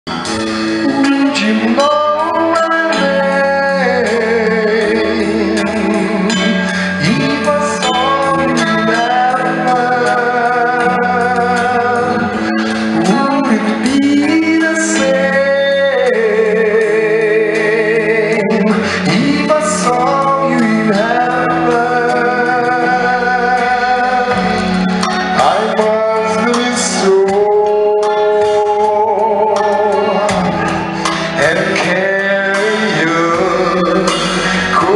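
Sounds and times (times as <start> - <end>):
instrumental accompaniment: 0.1 - 34.9
person singing: 0.1 - 34.9.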